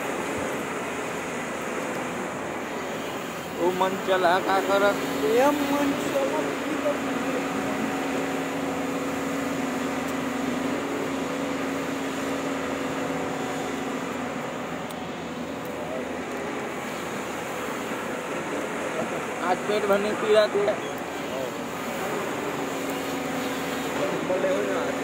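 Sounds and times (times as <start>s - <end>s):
excavator engine and hydraulics: 0.0s - 25.0s
steady hum: 0.0s - 25.0s.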